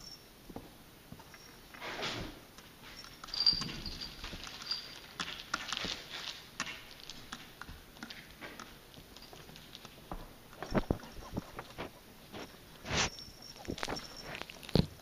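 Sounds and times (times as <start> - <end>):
cat paws tapping on tile floor: 2.6 - 15.0.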